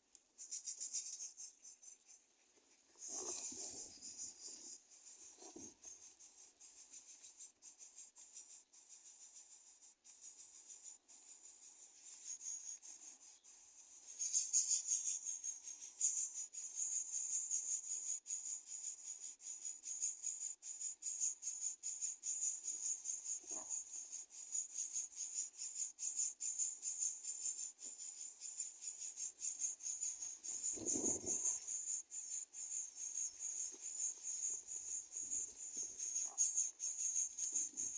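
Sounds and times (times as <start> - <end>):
insects trilling: 2.9 - 13.2, 14.0 - 37.9.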